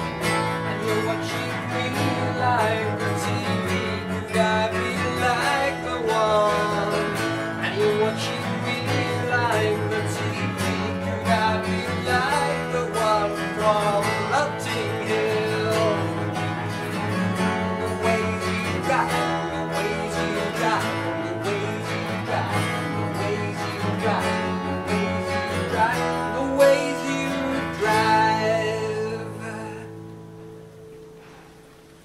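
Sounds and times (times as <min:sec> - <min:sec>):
acoustic guitar: 0:00.0 - 0:32.0.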